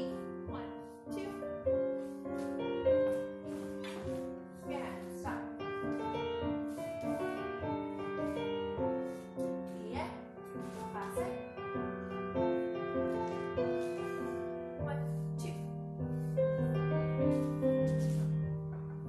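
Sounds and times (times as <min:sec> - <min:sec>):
piano playing chords and melody: 0:00.0 - 0:19.0.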